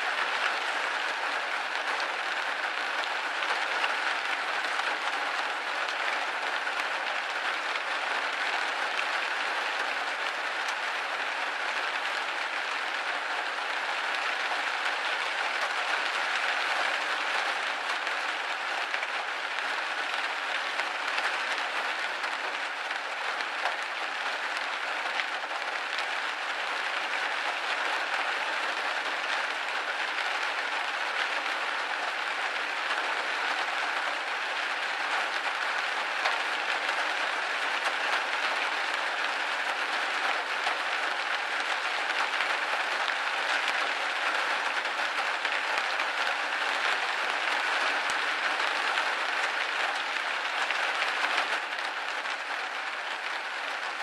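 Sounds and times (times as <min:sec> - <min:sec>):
rain pattering on a window: 0:00.0 - 0:54.0.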